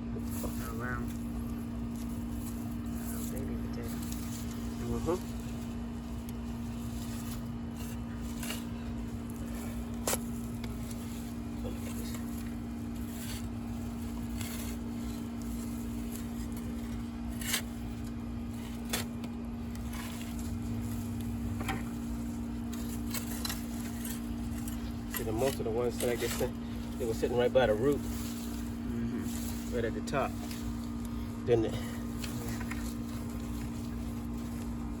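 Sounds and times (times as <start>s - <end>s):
steady low hum: 0.0s - 35.0s
digging scrapes in hard soil: 0.1s - 35.0s.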